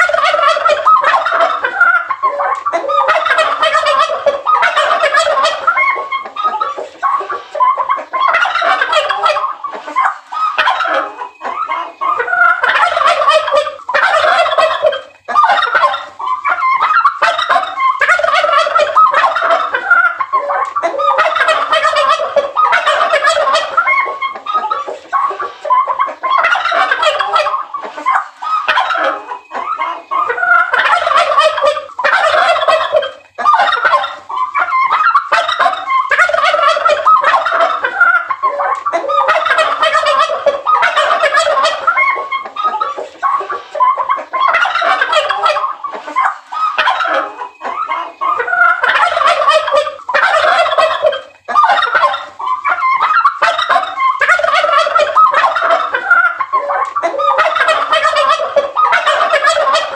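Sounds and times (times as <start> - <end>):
turkeys gobbling: 0.0 - 59.9.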